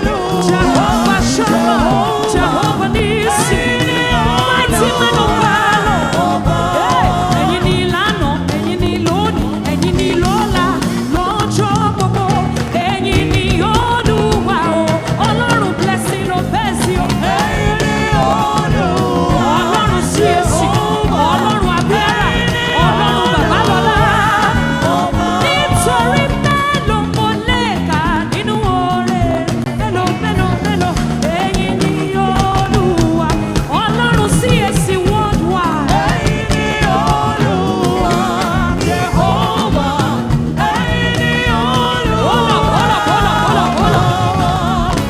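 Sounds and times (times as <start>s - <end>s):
gospel band playing: 0.0s - 45.0s
people singing: 0.0s - 45.0s.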